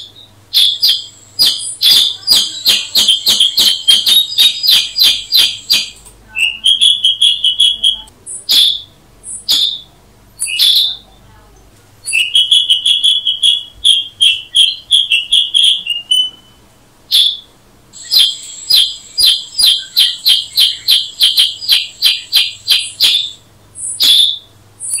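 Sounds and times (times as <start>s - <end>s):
bird calls repeated notes: 0.0s - 11.2s, 12.0s - 25.0s
thin steady high tone: 0.7s - 16.7s, 17.9s - 23.3s.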